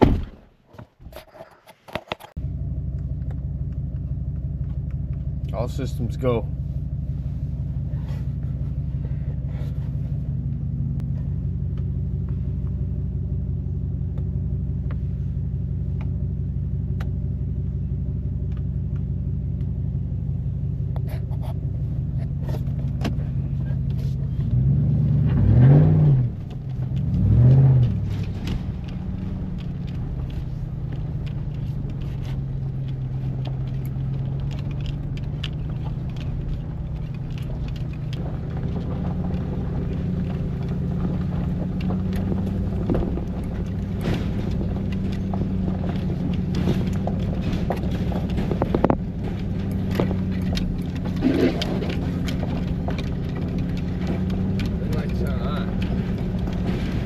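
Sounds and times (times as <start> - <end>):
truck engine droning: 2.4 - 57.0.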